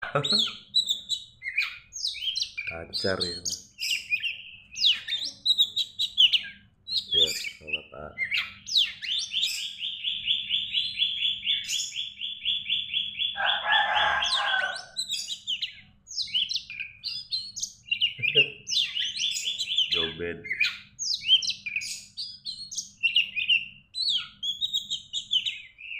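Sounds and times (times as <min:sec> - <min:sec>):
harsh bird chatter: 0:00.0 - 0:25.9
bird singing chirps and whistles: 0:00.1 - 0:25.9.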